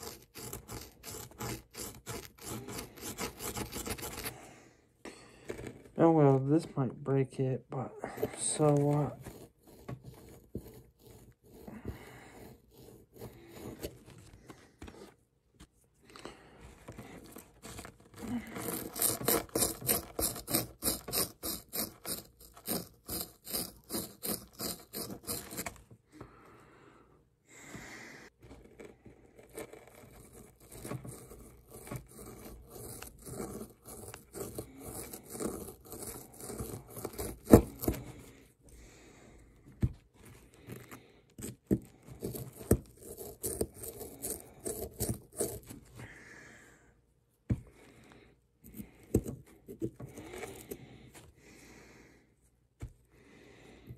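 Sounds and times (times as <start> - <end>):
plastic tool scraping plaster: 0.0 - 4.6, 5.3 - 26.4, 28.3 - 46.2, 47.4 - 51.6.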